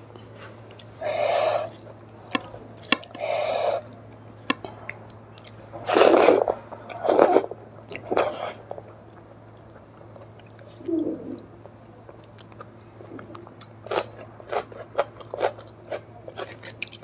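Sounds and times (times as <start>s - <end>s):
person chewing: 0.7s - 17.0s.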